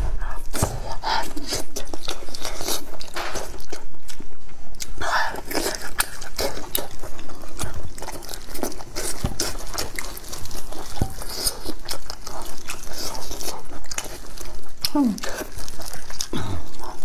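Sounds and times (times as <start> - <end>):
biting and chewing meat: 0.2 - 17.0.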